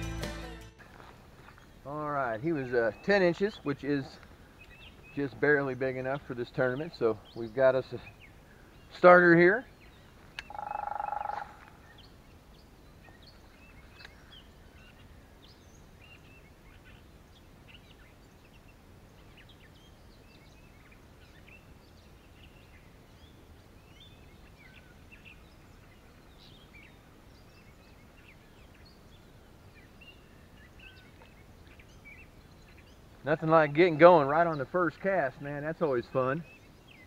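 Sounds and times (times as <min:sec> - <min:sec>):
faint birdsong and chirps: 0:00.8 - 0:37.0.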